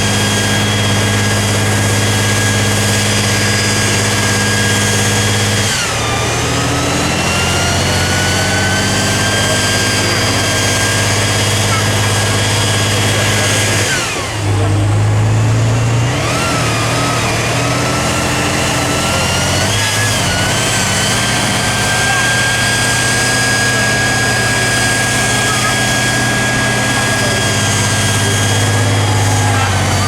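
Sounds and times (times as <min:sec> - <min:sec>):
high whine: 0:00.0 - 0:30.0
truck diesel engine under load: 0:00.0 - 0:30.0.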